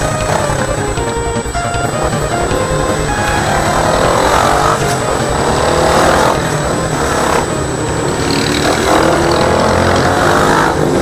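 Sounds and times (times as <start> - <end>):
motorcycle engine while riding: 0.0 - 11.0.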